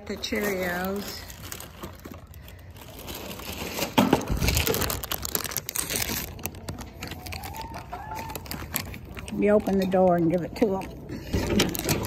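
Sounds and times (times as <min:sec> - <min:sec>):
plastic cereal bag crinkling: 0:00.0 - 0:12.0.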